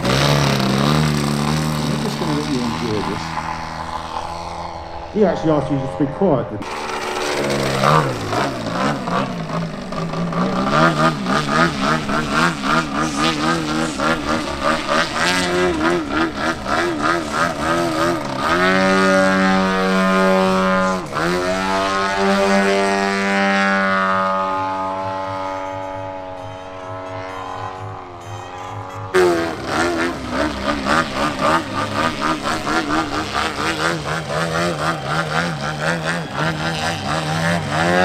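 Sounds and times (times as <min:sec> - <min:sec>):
model plane engine and propeller: 0:00.0 - 0:38.0.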